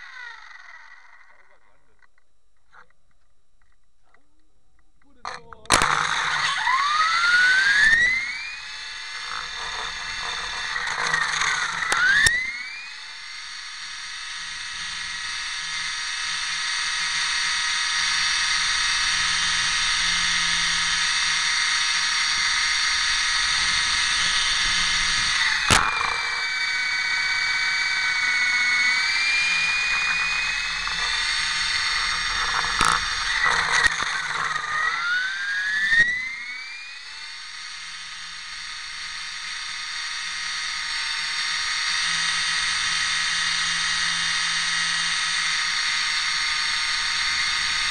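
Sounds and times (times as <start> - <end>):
model helicopter motor whine: 0.0 - 2.2, 5.1 - 47.9.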